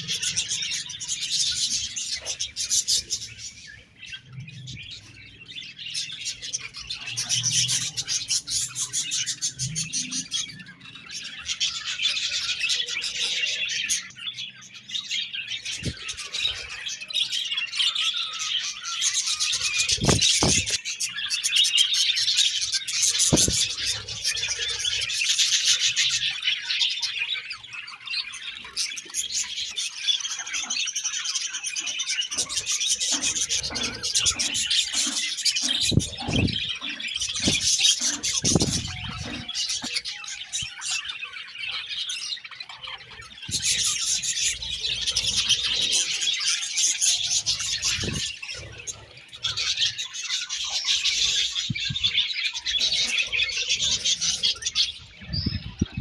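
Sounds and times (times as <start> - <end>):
budgerigars chirping and chattering: 0.0 - 56.0.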